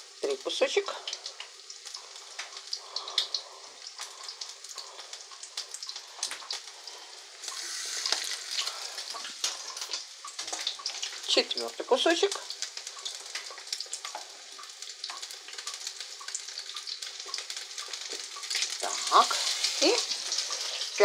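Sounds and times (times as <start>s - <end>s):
fish frying in oil: 0.0s - 21.0s
oil crackling pops: 1.1s - 11.4s, 12.3s - 21.0s.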